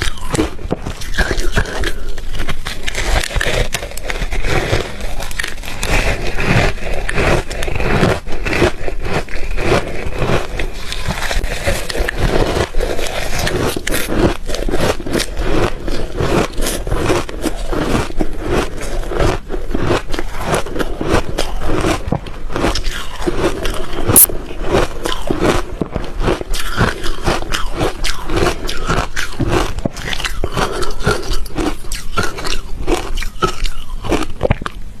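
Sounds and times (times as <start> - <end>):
ice being chewed: 0.0 - 35.0.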